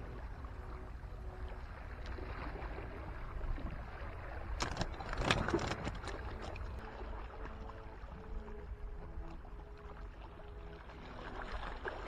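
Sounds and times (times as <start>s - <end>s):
sea water wash: 0.0s - 12.0s
wind: 0.0s - 12.0s.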